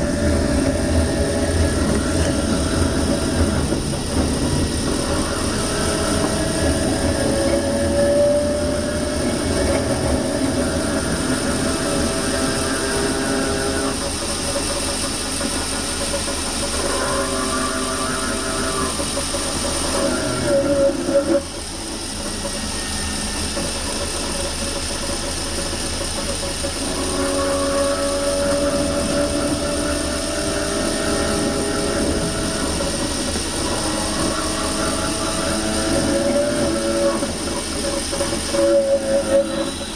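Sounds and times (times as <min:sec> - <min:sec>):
electric train motors whining: 0:00.0 - 0:39.9.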